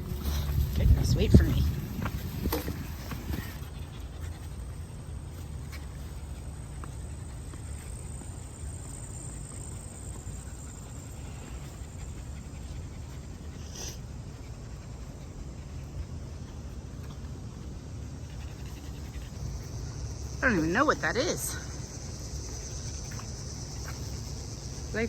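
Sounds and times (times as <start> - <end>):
dog panting: 0.0 - 25.0
low outdoor rumble: 0.0 - 25.0.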